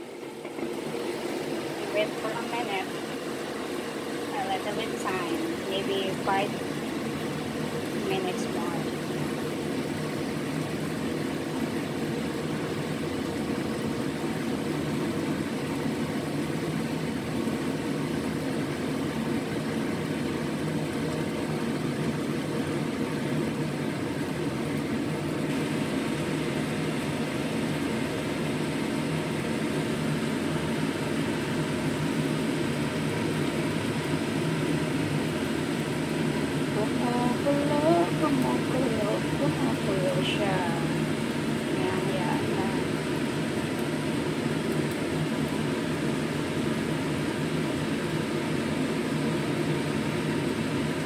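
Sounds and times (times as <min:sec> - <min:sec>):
kitchen fan whirring: 0:00.0 - 0:51.0.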